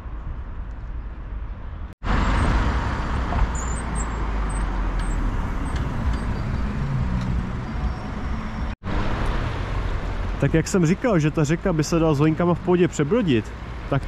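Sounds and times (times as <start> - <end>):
cars passing by: 1.6 - 14.0.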